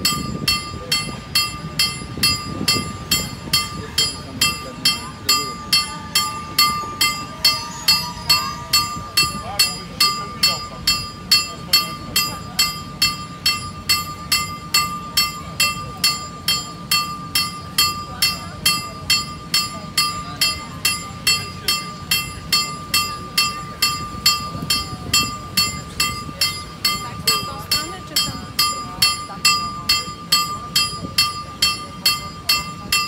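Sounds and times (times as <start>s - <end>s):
level-crossing warning bell: 0.0s - 33.0s.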